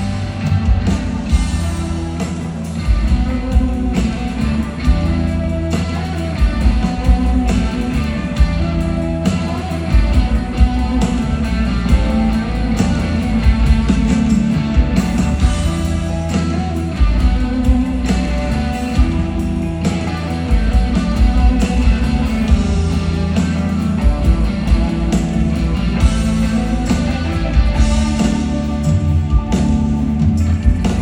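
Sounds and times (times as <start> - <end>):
electric guitar: 0.0 - 31.0
rock band playing: 0.0 - 31.0.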